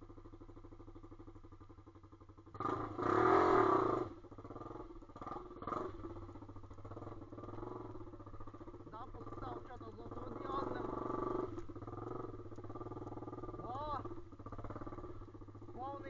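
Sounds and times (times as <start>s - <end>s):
pit bike engine revving: 2.5s - 16.0s.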